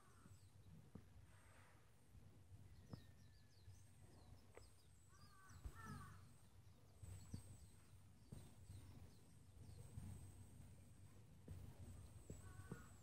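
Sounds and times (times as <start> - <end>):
birds chirping: 0.0 - 1.1, 2.7 - 13.0.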